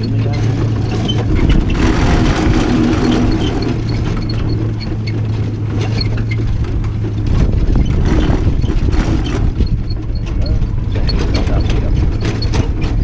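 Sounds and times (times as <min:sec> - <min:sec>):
carriage rumble: 0:00.0 - 0:13.0.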